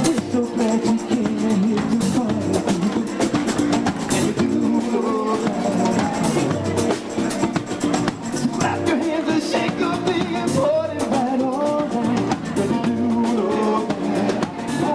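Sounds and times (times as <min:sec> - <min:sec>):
guitar: 0:00.0 - 0:14.9
steady drum beat: 0:00.0 - 0:14.9.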